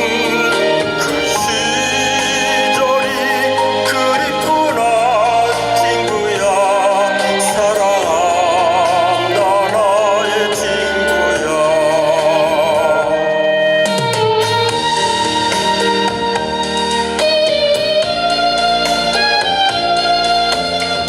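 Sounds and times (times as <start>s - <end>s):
music backing track: 0.0s - 21.0s
tenor singing with vibrato: 0.0s - 21.0s.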